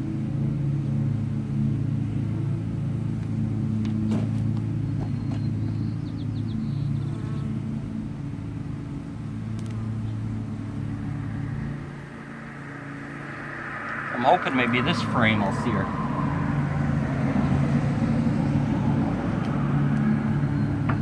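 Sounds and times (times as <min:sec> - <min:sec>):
honeybees humming: 0:00.2 - 0:21.0.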